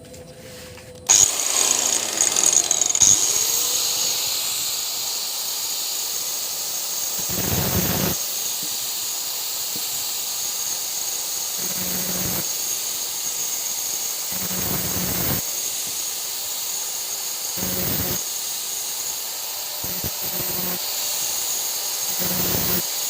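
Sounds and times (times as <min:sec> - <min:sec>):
power grinder whining: 0:01.0 - 0:23.0.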